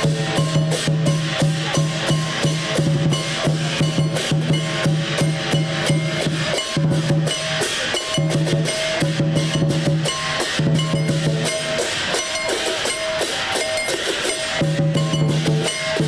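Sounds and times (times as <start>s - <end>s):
drum gong and cymbal percussion: 0.0s - 16.0s.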